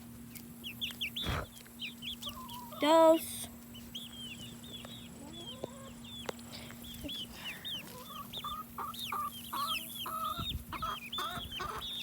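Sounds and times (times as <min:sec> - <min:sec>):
chicks peeping: 0:00.0 - 0:12.0
hens clucking: 0:00.9 - 0:12.0.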